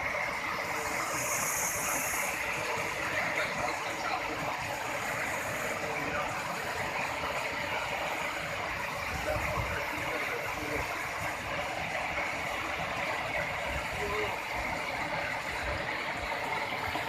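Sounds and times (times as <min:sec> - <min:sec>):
river water rushing over boulders: 0:00.0 - 0:17.0.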